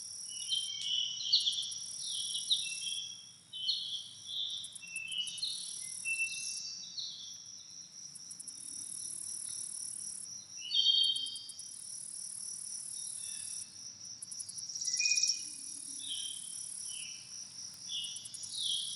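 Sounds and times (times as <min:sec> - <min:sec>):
crickets chirring: 0:00.0 - 0:18.9.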